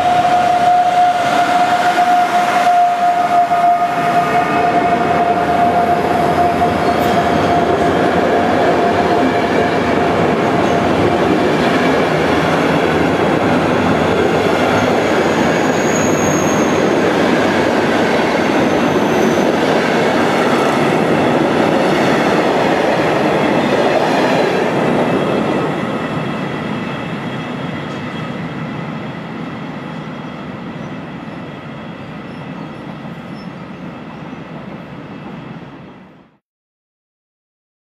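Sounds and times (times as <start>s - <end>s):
train wheel squeal: 0.0s - 20.8s, 24.1s - 36.4s
train wheels rolling on rails: 0.0s - 36.1s.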